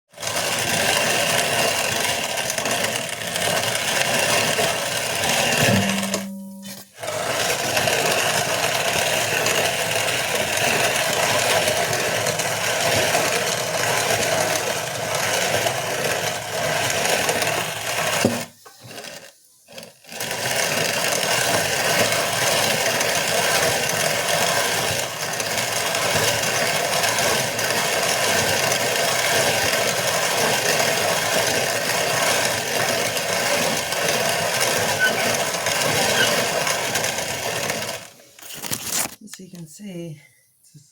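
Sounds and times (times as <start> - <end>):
hand mill grinding grain: 0.1 - 39.2.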